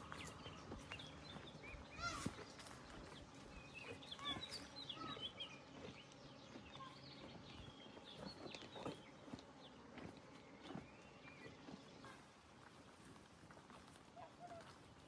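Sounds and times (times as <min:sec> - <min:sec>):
birds chirping: 0:00.0 - 0:13.1.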